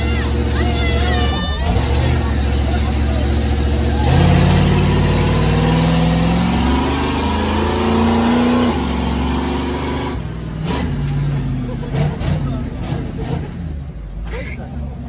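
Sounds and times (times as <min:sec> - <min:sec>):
truck engine accelerating: 0:00.0 - 0:15.0.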